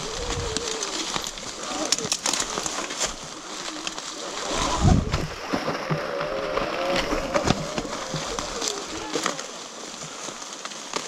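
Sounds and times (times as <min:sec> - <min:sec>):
bicycle rolling on rough track: 0:00.0 - 0:11.0.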